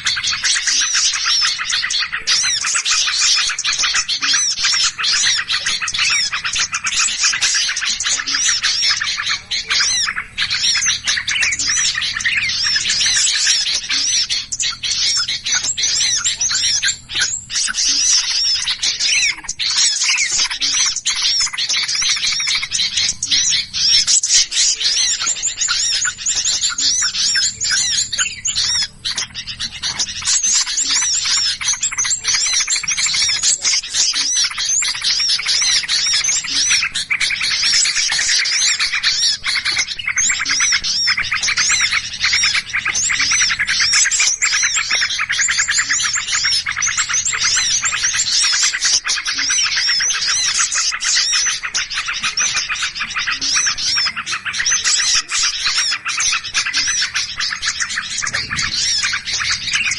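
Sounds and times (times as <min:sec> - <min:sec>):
songbirds chirping and chattering: 0:00.0 - 0:59.9.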